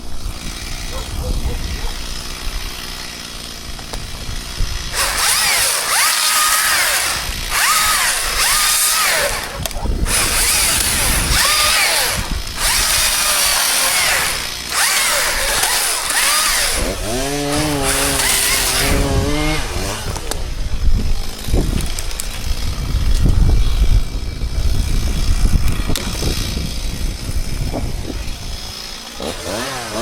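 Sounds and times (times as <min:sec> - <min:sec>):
chainsaw cutting: 0:00.0 - 0:30.0.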